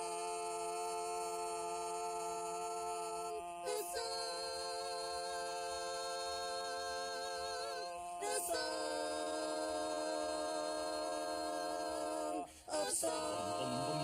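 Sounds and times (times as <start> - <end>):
a cappella choir singing chords: 0.0 - 14.0.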